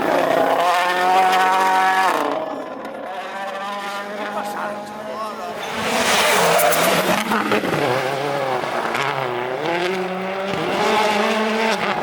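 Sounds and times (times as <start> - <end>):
rally car engine at full throttle: 0.0 - 12.0.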